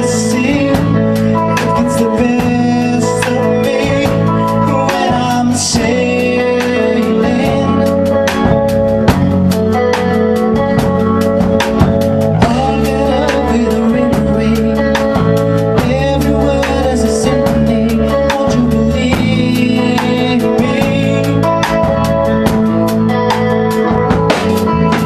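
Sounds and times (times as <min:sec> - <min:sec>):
man singing: 0:00.0 - 0:08.9, 0:12.3 - 0:23.8
bass guitar: 0:00.0 - 0:25.0
drum kit beat: 0:00.0 - 0:25.0
electric guitar: 0:00.0 - 0:25.0.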